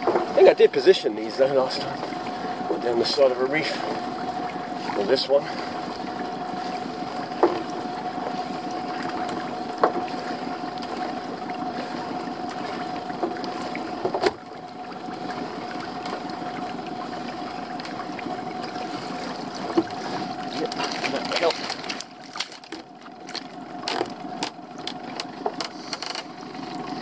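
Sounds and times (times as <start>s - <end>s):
small boat motor running: 0.0s - 27.0s.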